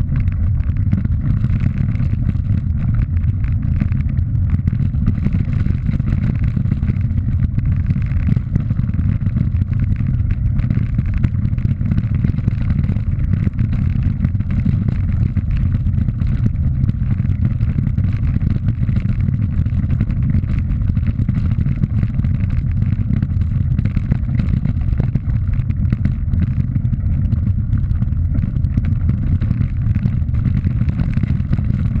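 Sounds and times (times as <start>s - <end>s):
gravel rattling under wheels: 0.0s - 32.0s
rumble of riding on dirt track: 0.0s - 32.0s.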